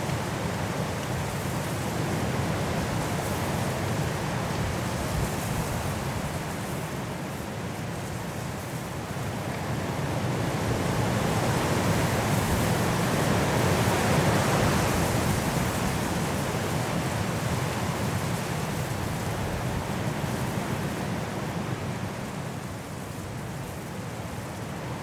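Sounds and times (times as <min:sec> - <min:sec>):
high wind blowing through trees: 0:00.0 - 0:25.0.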